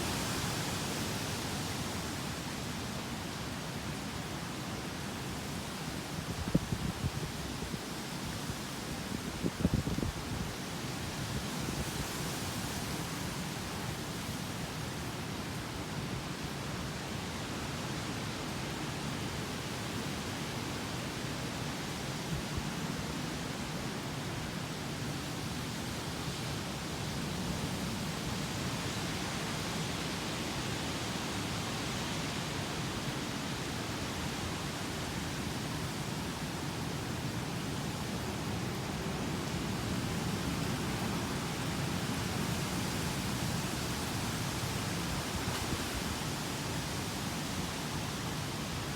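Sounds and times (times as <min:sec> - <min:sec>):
wind and rain rushing: 0:00.0 - 0:48.9.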